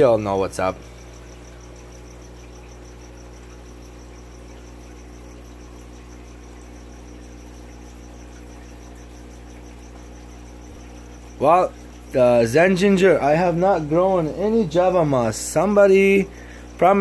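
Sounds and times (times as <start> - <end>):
faint pulsing high whine: 0.0 - 17.0
steady electrical hum: 0.0 - 17.0.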